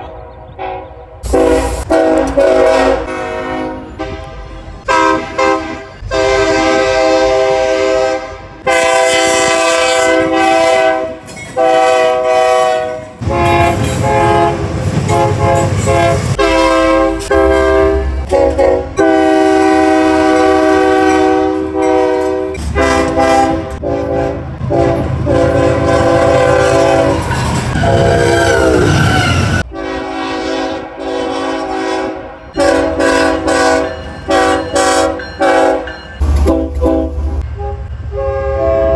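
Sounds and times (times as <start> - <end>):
locomotive air horns blowing: 0.0 - 38.9
passing train rumble: 0.0 - 38.9.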